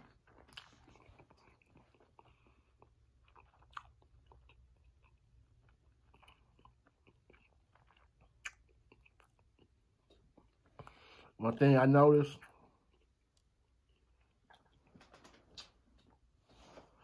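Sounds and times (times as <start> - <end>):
chewing burger: 0.0 - 11.1, 12.4 - 17.0.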